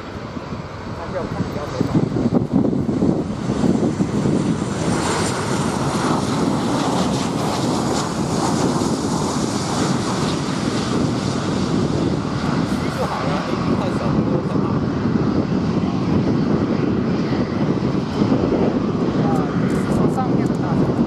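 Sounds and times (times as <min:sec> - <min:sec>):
jet airliner passing overhead: 0:00.0 - 0:21.0.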